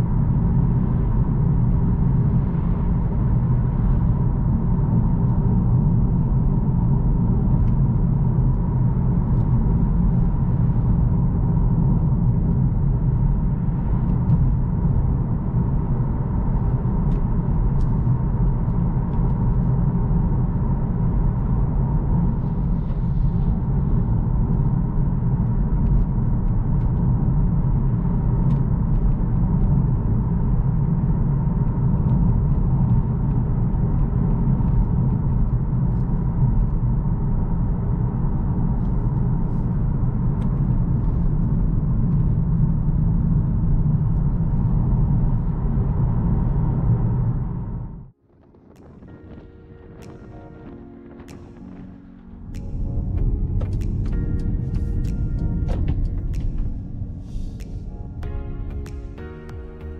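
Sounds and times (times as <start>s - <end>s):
car cabin road noise: 0.0s - 59.9s.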